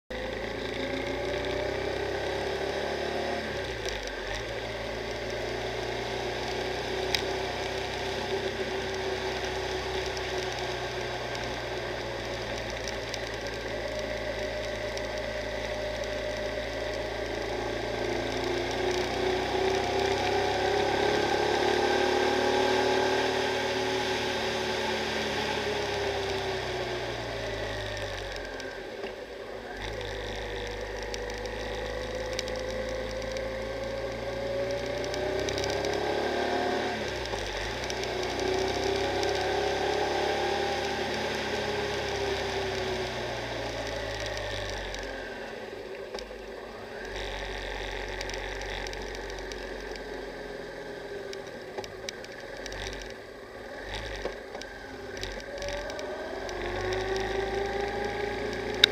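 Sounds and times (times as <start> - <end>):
motorcycle engine running: 0.1 - 58.9
wind and road noise: 0.1 - 58.9.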